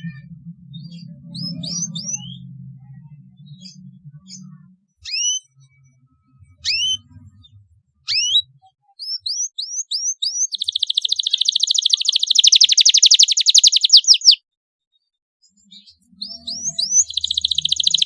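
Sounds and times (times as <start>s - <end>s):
canary singing: 0.0s - 14.4s, 15.5s - 18.0s.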